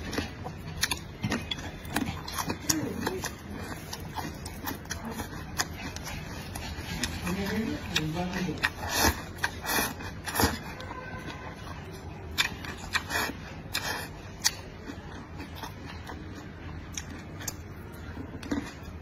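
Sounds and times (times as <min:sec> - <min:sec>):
person chewing with wet smacks: 0:00.0 - 0:19.0.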